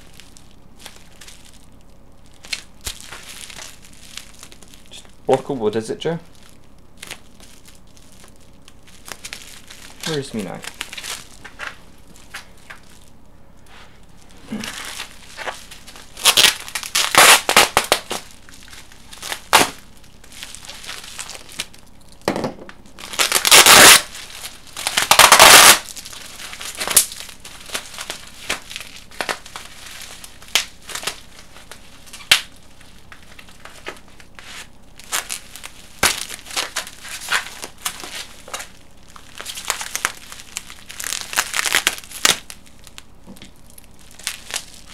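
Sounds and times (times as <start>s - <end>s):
packing material crinkling: 0.0s - 44.9s.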